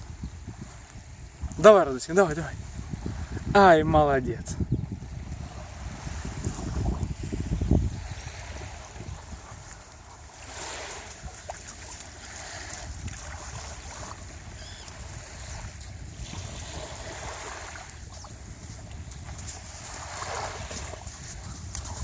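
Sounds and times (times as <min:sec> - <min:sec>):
sea surf washing: 0:00.0 - 0:22.0
wind buffeting microphone: 0:00.0 - 0:22.0.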